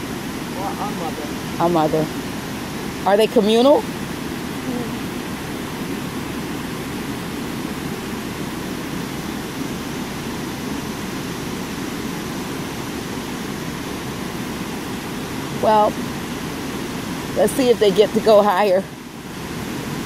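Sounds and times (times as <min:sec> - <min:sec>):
water rushing over waterfall: 0:00.0 - 0:20.0.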